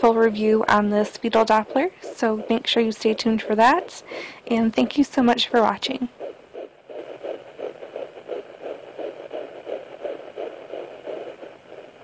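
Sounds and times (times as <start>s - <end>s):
fetal heartbeat on doppler: 0.0s - 12.0s.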